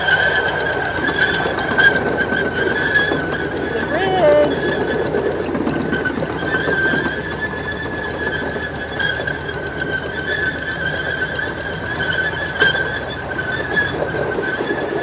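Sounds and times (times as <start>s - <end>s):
moving train rumble: 0.0s - 15.0s
train wheels squealing: 0.0s - 15.0s.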